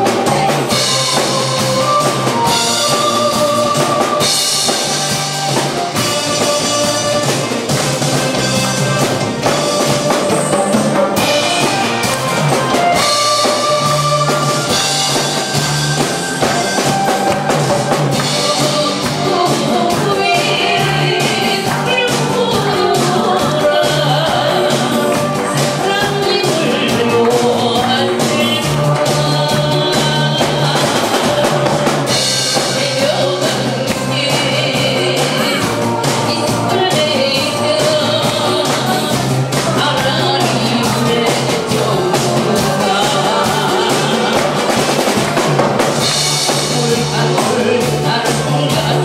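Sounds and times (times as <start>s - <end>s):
woman singing into a microphone: 0.0s - 7.6s, 12.6s - 15.6s, 18.2s - 45.2s, 46.4s - 49.0s
drum kit: 0.0s - 49.0s.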